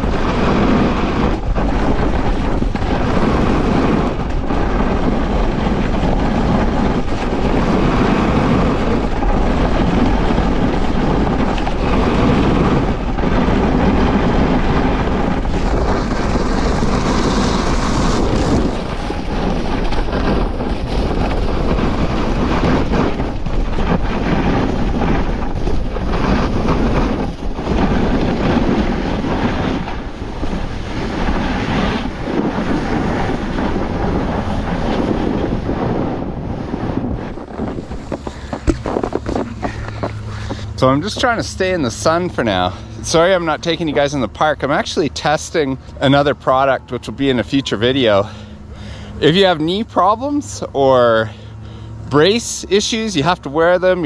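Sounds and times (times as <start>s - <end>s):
snowboard scraping across snow: 0.0s - 44.9s
wind rushing over microphone: 0.0s - 54.0s.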